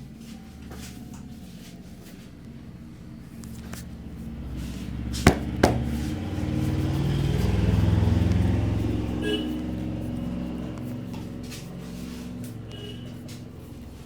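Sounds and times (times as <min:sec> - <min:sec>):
vehicle engine passing: 0:02.7 - 0:14.0.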